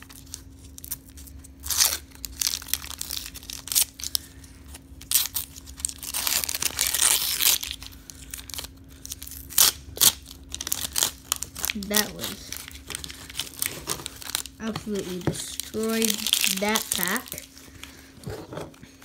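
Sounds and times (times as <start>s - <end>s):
wrapper crinkling and tearing: 0.0s - 18.1s.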